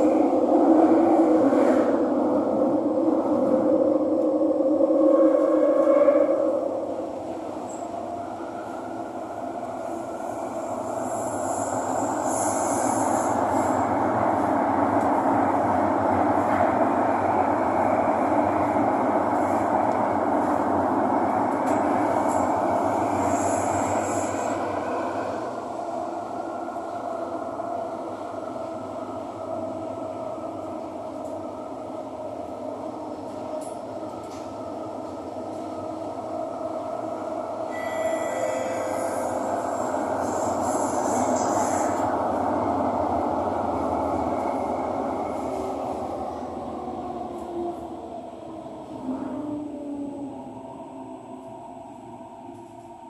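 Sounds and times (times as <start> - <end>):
train cabin rumble and hum: 0.0 - 53.0.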